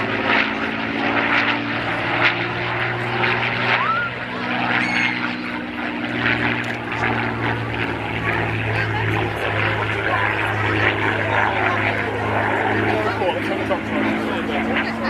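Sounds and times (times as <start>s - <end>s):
aircraft engine droning: 0.0s - 15.0s.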